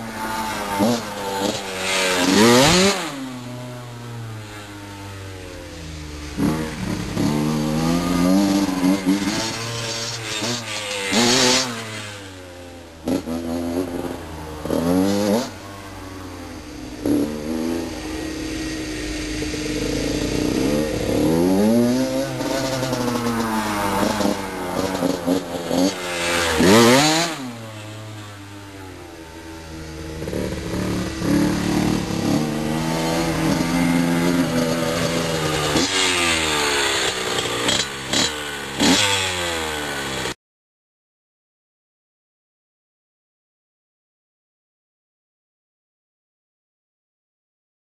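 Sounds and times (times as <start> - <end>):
dirt bike engine revving: 0.0 - 40.4.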